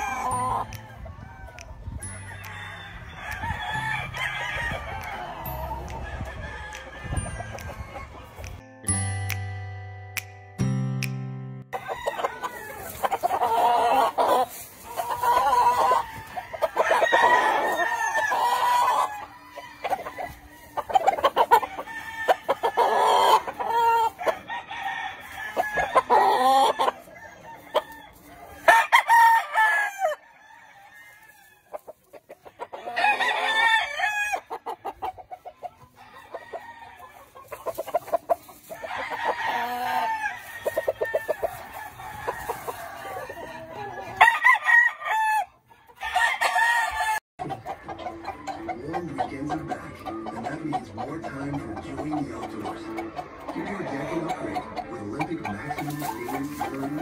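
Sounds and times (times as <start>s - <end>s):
roosters crowing: 0.0s - 8.6s, 11.7s - 57.0s
chickens clucking: 0.0s - 8.7s, 11.0s - 57.0s.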